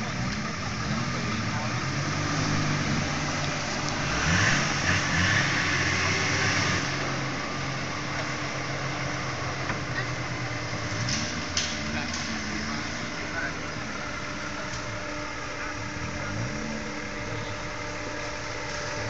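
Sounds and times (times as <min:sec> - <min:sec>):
off-road engine revving: 0:00.0 - 0:19.0.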